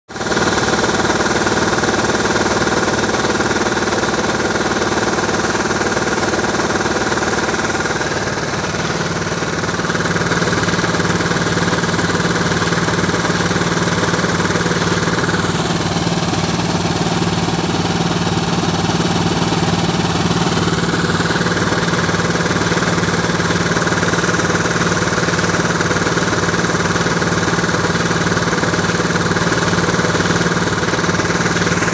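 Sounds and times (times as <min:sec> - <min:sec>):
air compressor engine running: 0:00.1 - 0:31.9
water spurting: 0:00.2 - 0:31.9.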